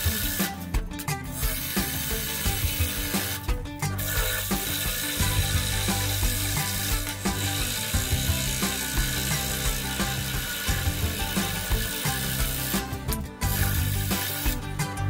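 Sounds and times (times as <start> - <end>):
scroll saw cutting wood: 0.0 - 15.0.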